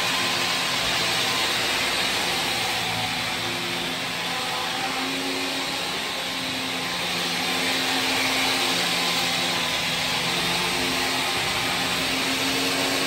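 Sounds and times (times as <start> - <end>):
floor grinding machine running: 0.0 - 13.0.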